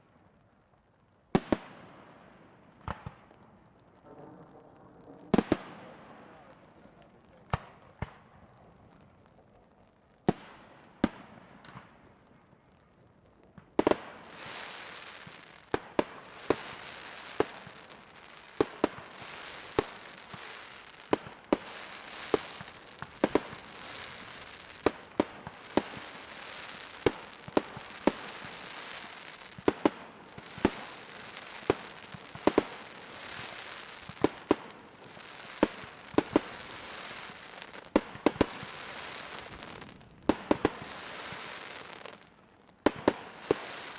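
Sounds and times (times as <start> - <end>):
firework crackle: 0.0 - 43.9.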